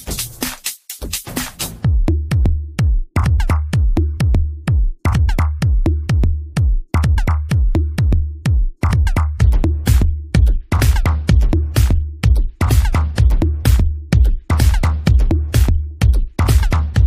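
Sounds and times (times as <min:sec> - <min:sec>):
electronic dance music: 0:00.0 - 0:17.0
deep bass: 0:01.3 - 0:17.0.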